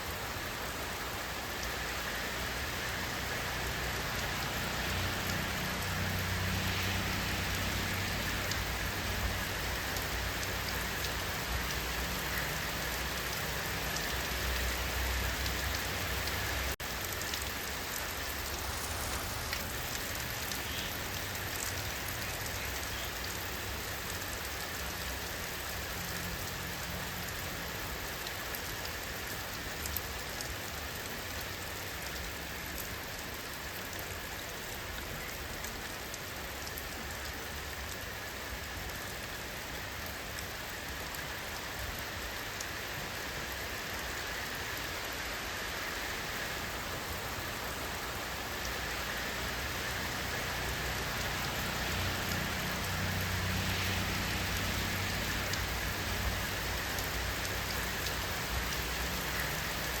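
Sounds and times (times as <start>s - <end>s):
raindrops striking a surface: 0.0s - 60.0s.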